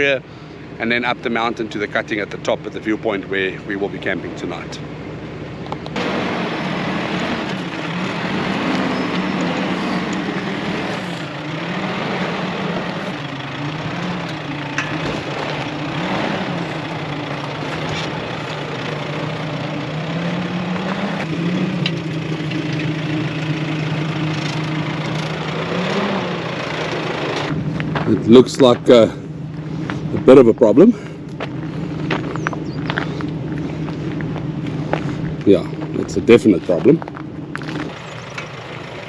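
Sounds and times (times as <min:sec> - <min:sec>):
off-road vehicle engine revving: 0:00.0 - 0:39.0.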